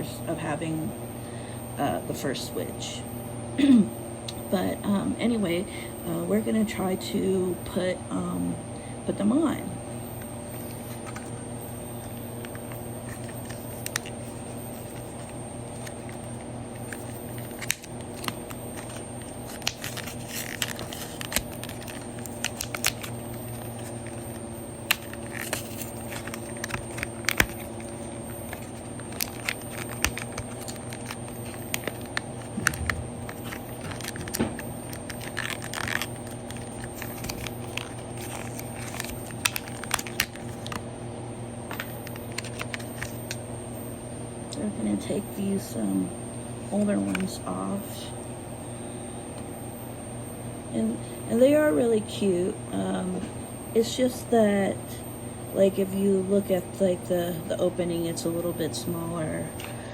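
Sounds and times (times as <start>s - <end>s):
room fans humming: 0.0s - 59.9s.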